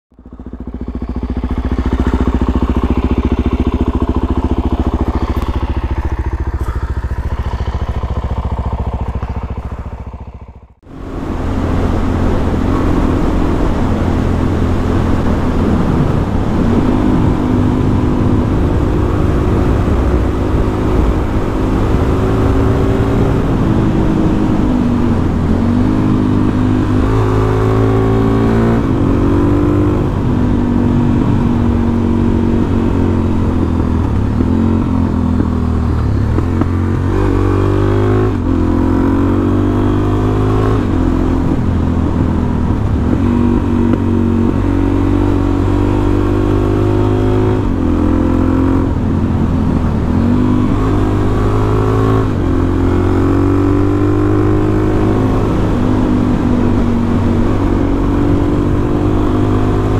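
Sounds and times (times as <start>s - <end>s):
motorcycle engine revving: 0.1s - 59.9s.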